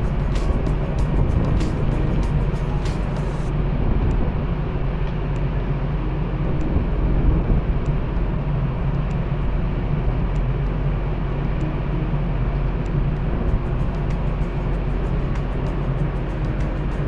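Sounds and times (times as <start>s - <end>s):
propeller-churned water: 0.0s - 17.0s
ship engines rumbling: 0.0s - 17.0s.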